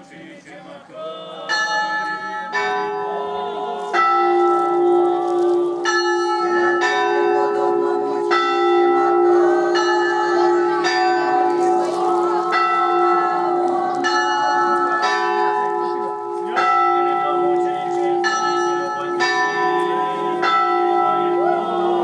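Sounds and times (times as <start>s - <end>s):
church bells ringing: 1.4s - 22.0s
deep bell humming: 1.5s - 22.0s.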